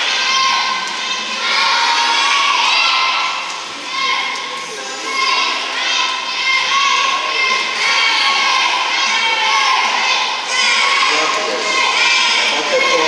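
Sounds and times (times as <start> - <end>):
children shouting and cheering: 0.0 - 13.0.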